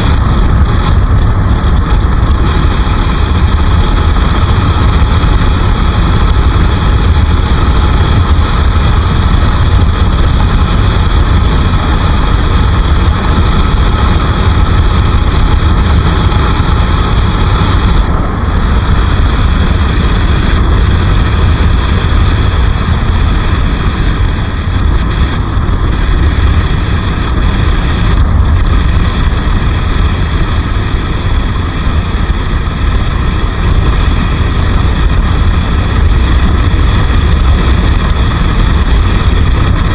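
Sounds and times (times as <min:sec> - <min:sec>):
motorcycle engine cruising: 0:00.0 - 0:39.9
wind rumble on microphone: 0:00.0 - 0:39.9.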